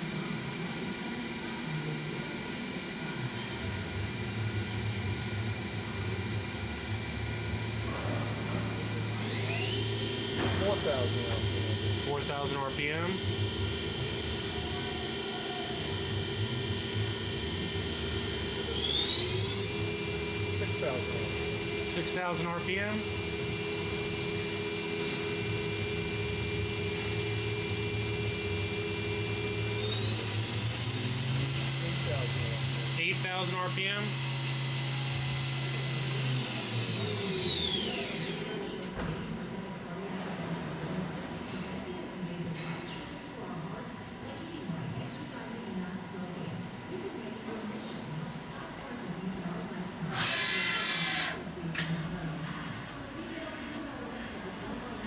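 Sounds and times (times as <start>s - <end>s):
low machine hum: 0.0s - 55.0s
machine spindle running: 0.0s - 55.0s.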